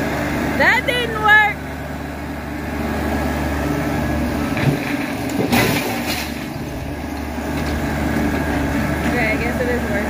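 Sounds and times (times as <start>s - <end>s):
tractor engine under load: 0.0s - 10.0s.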